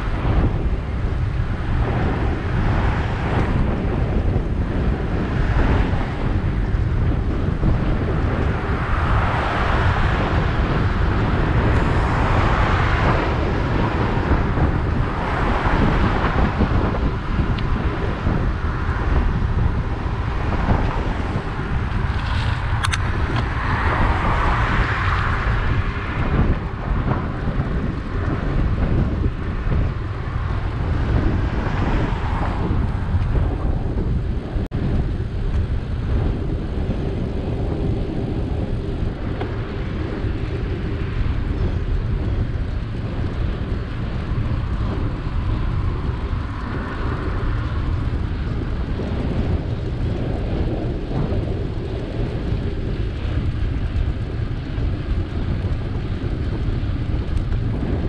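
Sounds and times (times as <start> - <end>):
bicycle rolling noise: 0.0 - 58.0
wind buffeting microphone: 0.0 - 58.0.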